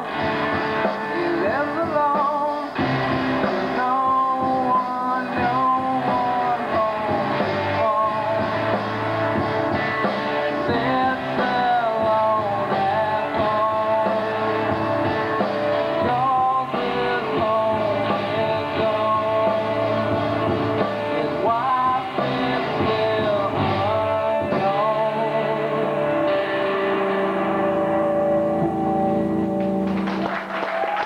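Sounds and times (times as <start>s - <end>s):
drum kit: 0.0s - 31.0s
electric guitars: 0.0s - 31.0s
male singer: 0.9s - 9.0s, 10.3s - 27.7s.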